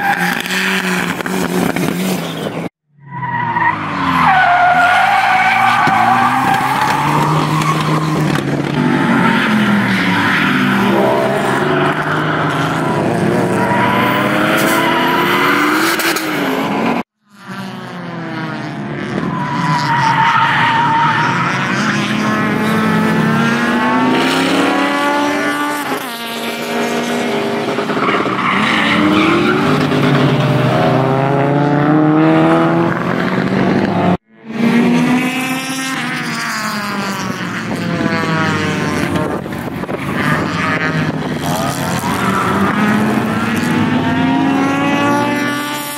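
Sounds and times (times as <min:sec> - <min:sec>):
racing car engines revving: 0:00.0 - 0:45.9.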